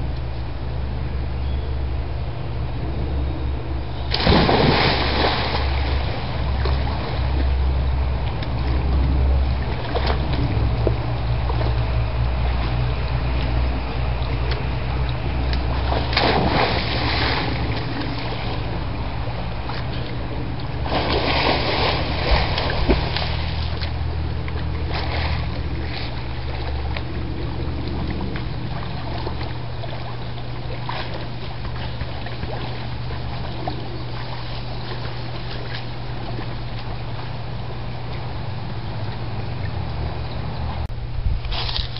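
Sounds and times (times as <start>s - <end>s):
steady low hum: 0.0s - 41.9s
water splashing in a pool: 4.1s - 40.6s.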